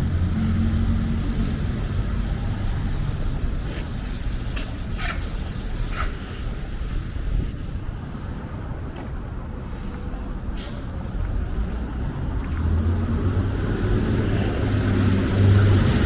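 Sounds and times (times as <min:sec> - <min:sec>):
heavy vehicle engine rumbling: 0:00.0 - 0:16.0
street traffic: 0:00.0 - 0:16.0.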